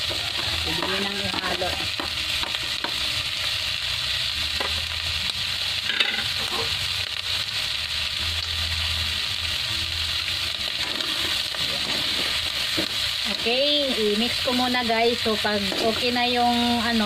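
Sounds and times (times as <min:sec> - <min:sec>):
pork frying in hot oil: 0:00.0 - 0:17.0.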